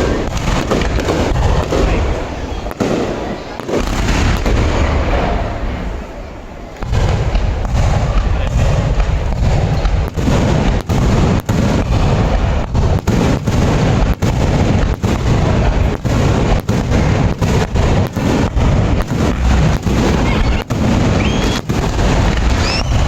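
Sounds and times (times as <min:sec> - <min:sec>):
fireworks booming: 0:00.0 - 0:23.0.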